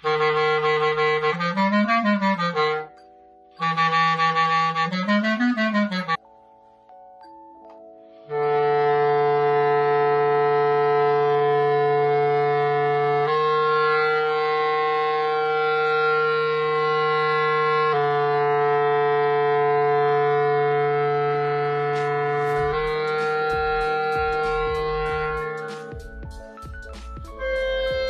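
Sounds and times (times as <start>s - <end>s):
clarinet long held notes: 0.0s - 6.2s, 8.0s - 28.0s.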